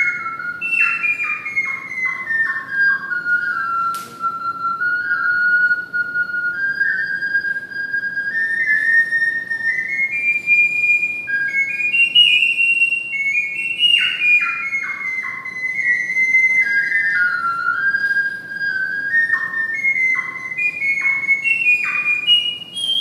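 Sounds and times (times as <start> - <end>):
ocarina playing slow melody: 0.0 - 23.0.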